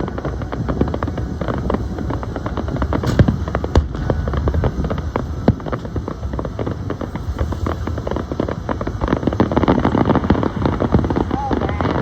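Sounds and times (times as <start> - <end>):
fireworks crackling: 0.0 - 12.0
loud firework cracks: 0.0 - 12.0.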